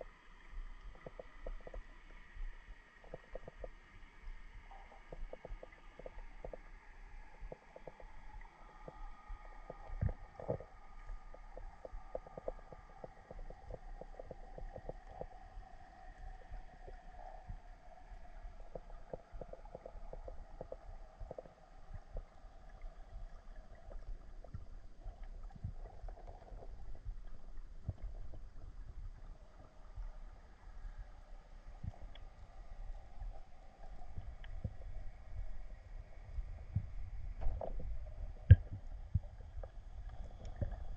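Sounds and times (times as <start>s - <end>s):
low underwater rumble: 0.0s - 40.9s
underwater clicks and crackles: 0.0s - 40.9s.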